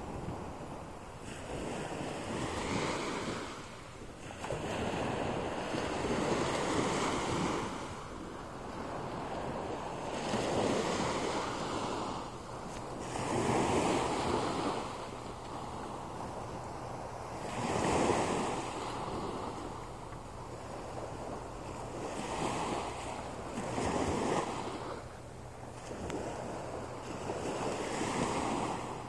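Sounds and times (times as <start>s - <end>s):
waves breaking on beach: 0.0s - 29.0s
wind rumble on microphone: 0.0s - 29.0s.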